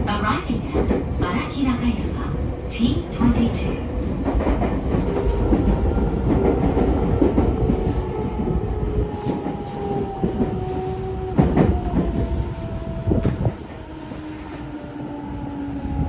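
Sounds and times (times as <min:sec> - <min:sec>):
train inverter whine: 0:00.0 - 0:16.0.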